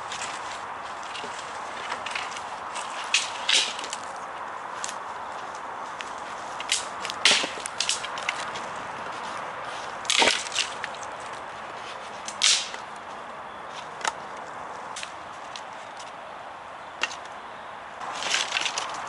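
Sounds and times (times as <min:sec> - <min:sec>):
twigs snapping and crackling: 0:00.0 - 0:16.2, 0:17.0 - 0:17.4, 0:18.0 - 0:19.0
sticks cracking and snapping: 0:00.1 - 0:13.1, 0:13.7 - 0:16.2, 0:17.0 - 0:17.4, 0:18.0 - 0:19.0.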